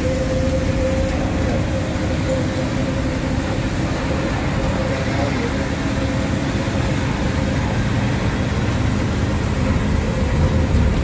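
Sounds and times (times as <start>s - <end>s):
bus engine running: 0.0s - 11.0s
tyres on wet road: 0.0s - 11.0s.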